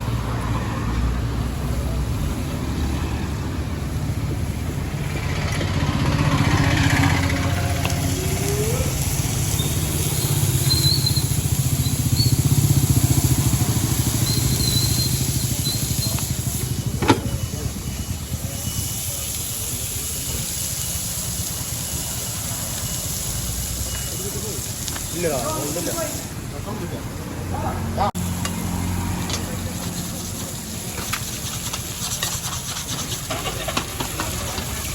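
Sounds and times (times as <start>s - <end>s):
engine rumble: 0.0s - 34.9s.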